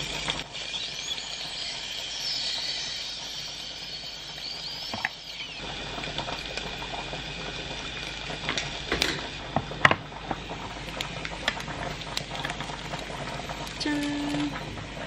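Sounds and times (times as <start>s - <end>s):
meat sizzling in waffle maker: 0.0s - 15.0s
sharp pops and clicks: 0.0s - 15.0s.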